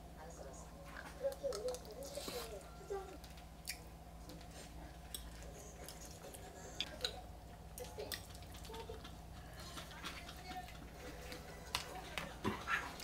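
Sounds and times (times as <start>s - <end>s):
soft chewing: 0.8s - 13.0s.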